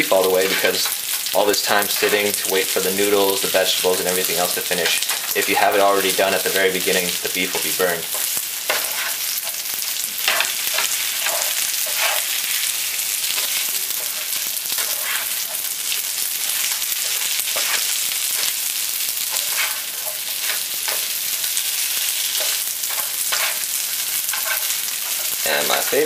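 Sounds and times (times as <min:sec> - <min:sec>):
food sizzling in a frying pan: 0:00.0 - 0:26.0
spatula scraping a pan: 0:00.1 - 0:26.0.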